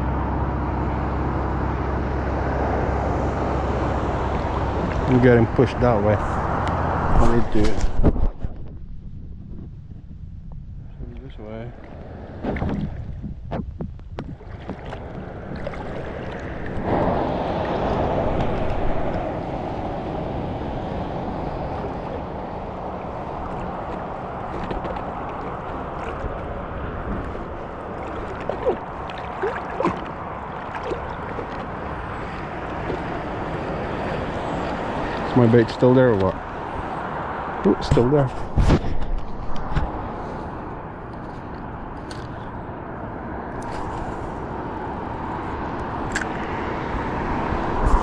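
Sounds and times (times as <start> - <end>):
water gurgling around boat: 0.7 - 8.8, 10.5 - 41.5, 42.1 - 48.0
wind on microphone: 2.6 - 35.4, 36.1 - 48.0.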